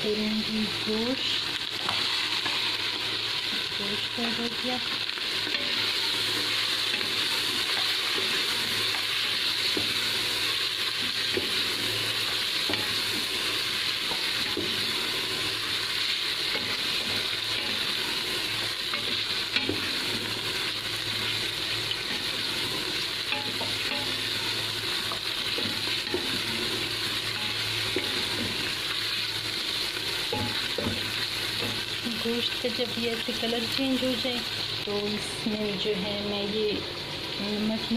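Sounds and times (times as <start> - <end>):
meat sizzling in hot fat: 0.0 - 37.9.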